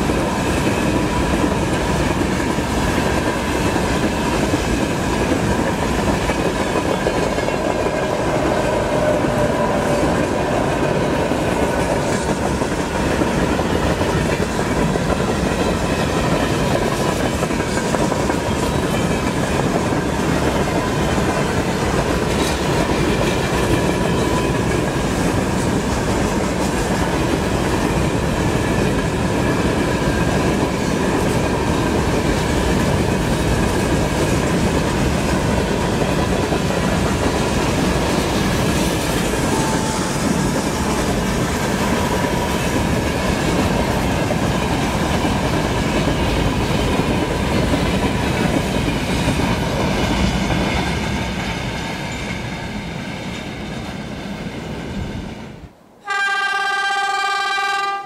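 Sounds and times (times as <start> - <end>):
wheels clacking over rail joints: 0.0 - 55.1
freight train rolling past: 0.0 - 58.0.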